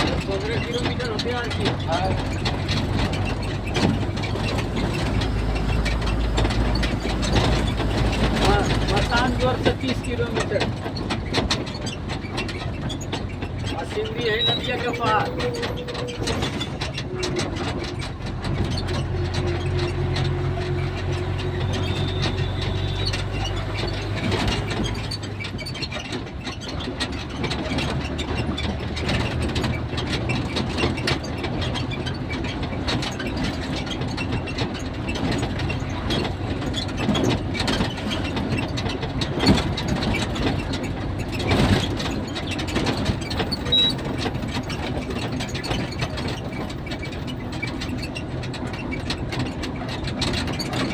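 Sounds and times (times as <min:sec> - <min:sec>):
rattle of loose parts: 0:00.0 - 0:50.9
vehicle engine hum: 0:00.0 - 0:50.9.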